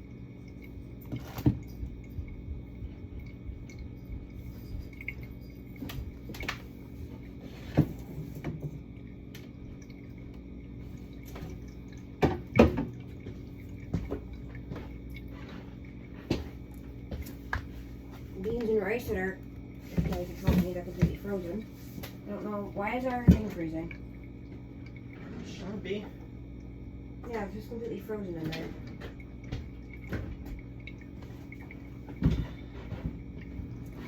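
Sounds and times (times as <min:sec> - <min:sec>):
fridge hum: 0:00.0 - 0:34.0.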